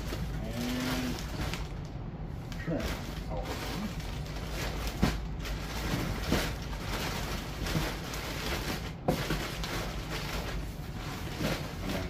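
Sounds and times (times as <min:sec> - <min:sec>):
plastic bags crinkling: 0:00.0 - 0:12.0
steady low hum: 0:00.0 - 0:12.0.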